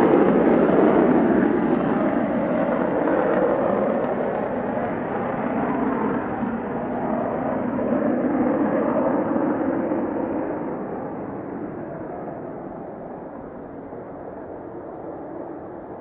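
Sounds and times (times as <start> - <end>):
jet aircraft passing: 0.0 - 16.0.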